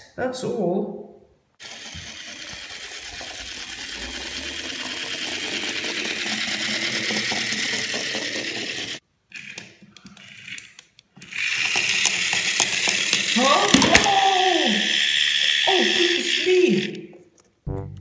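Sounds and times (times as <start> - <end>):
toy train motor whirring: 1.6 - 17.1.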